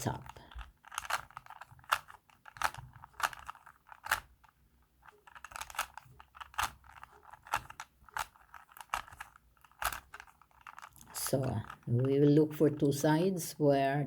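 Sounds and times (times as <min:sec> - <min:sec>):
plastic puzzle cube clacking: 0:00.0 - 0:12.1.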